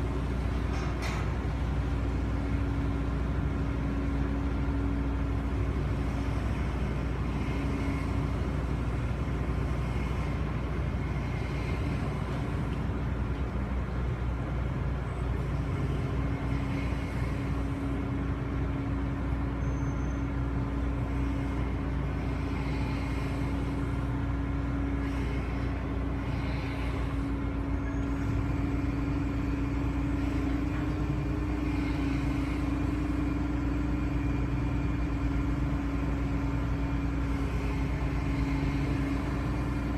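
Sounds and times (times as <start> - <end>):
ship engines droning: 0.0 - 39.9.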